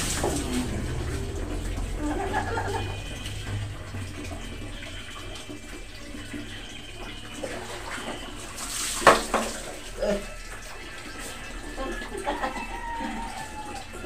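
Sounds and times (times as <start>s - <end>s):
water dripping and sloshing: 0.0s - 14.0s.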